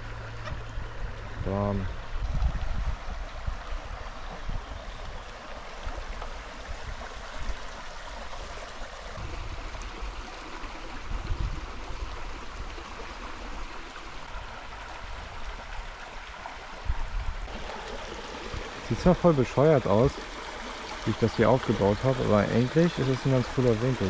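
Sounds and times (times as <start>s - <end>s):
brook burbling: 0.0s - 24.0s.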